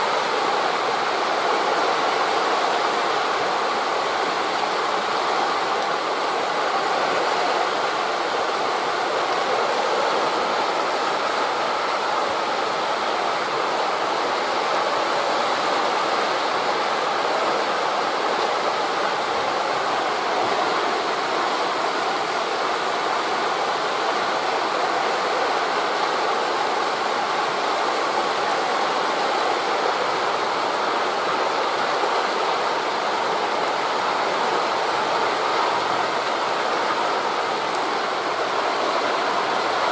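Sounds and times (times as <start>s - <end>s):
waves washing on a beach: 0.0s - 39.9s
wind rushing through leaves: 0.0s - 39.9s.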